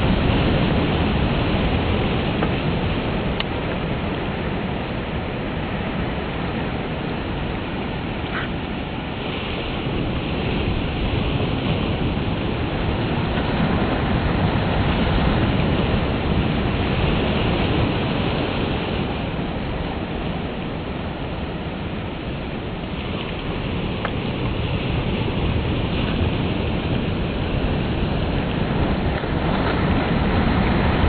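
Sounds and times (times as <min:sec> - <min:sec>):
ocean surf on a beach: 0:00.0 - 0:31.0
wind rumbling on microphone: 0:00.0 - 0:31.0.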